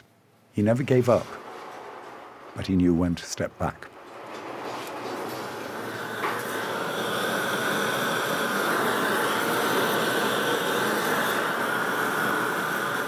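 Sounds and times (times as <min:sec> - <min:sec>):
gas torch roaring: 0:00.0 - 0:13.0.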